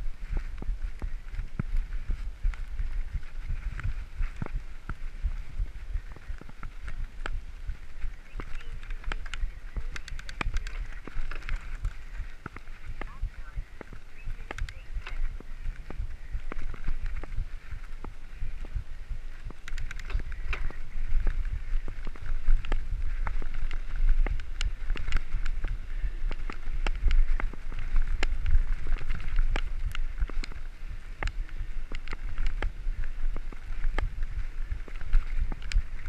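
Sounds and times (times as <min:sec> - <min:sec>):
bike clicks and rattles: 0:00.0 - 0:36.0
tyres crunching over gravel: 0:00.0 - 0:36.0
wind rumble on microphone: 0:00.0 - 0:36.0.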